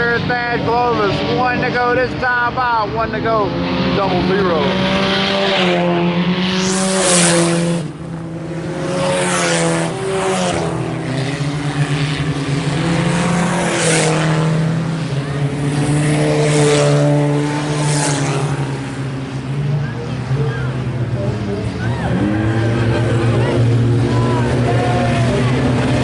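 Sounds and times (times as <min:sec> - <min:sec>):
cars passing by: 0:00.0 - 0:26.0
race car engines running hard: 0:00.0 - 0:26.0.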